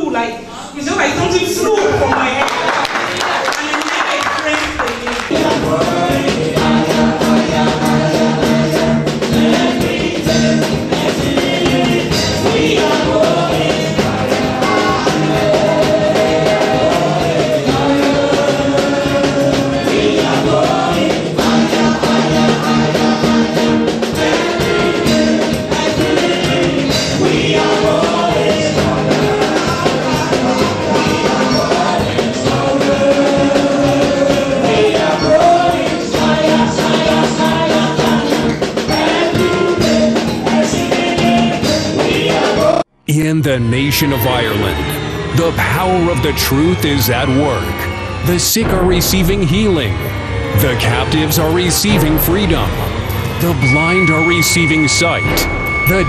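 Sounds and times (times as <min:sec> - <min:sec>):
song with singing and band: 0:02.5 - 0:42.9, 0:43.6 - 0:56.0.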